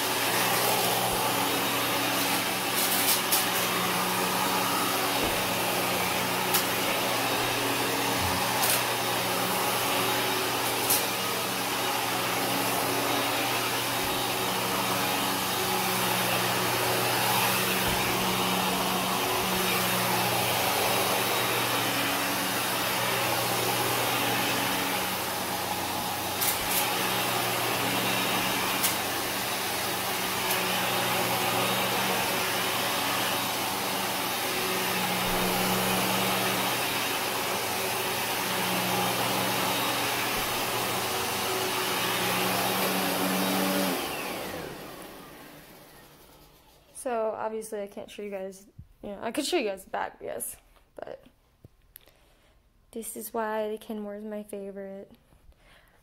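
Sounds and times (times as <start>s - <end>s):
vacuum cleaner running on carpet: 0.0s - 47.3s.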